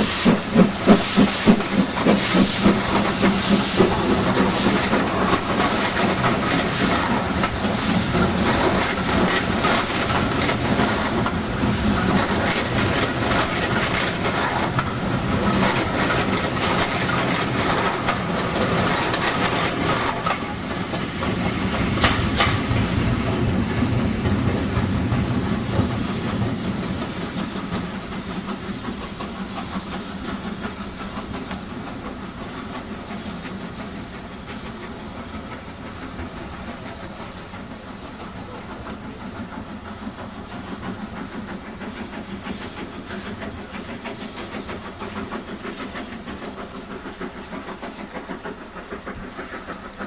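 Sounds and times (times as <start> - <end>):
steam locomotive running: 0.0 - 50.0
train wheels clattering over rail joints: 0.0 - 50.0.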